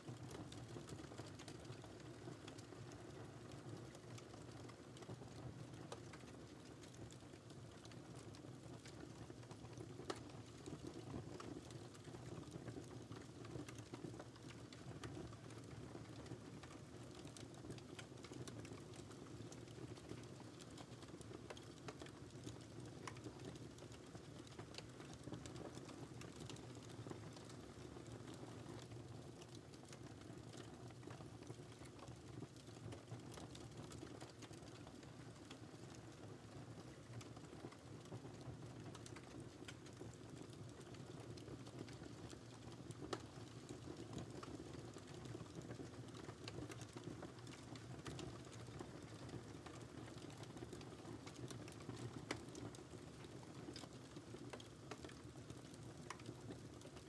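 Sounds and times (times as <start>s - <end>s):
fire pops and snaps: 5.7s - 36.2s, 37.1s - 57.0s.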